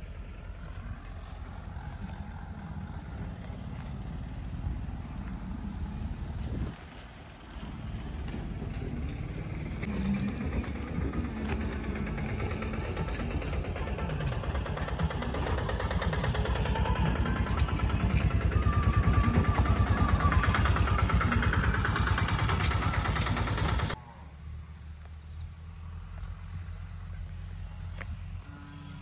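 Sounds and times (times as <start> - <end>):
engine running with rapid pulse: 0.0 - 29.0.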